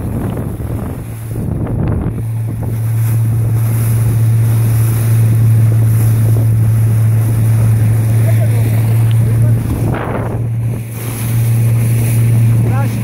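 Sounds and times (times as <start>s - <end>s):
boat engine droning: 0.0s - 13.0s
water rushing past hull: 0.0s - 13.0s
wind buffeting microphone: 0.0s - 13.0s.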